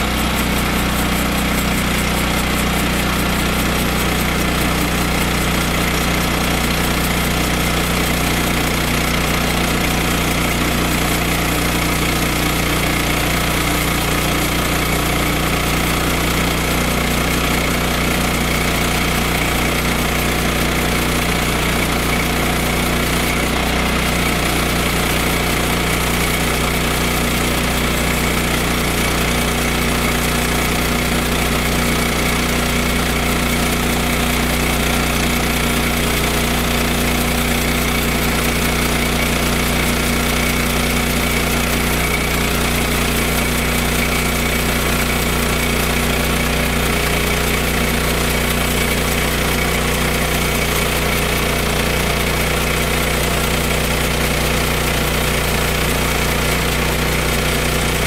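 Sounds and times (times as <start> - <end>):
small gasoline engine idling: 0.0 - 58.0.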